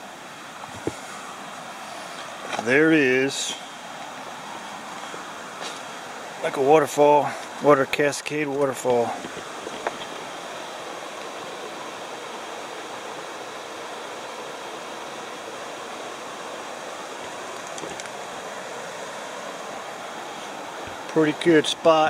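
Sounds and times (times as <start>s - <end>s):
water rushing over small waterfall: 0.0s - 22.0s.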